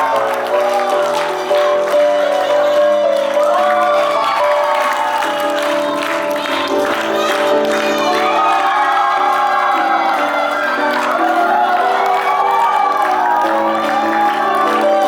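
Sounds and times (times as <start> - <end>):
audience cheering and clapping: 0.0 - 15.0
music with sustained melody: 0.0 - 15.0.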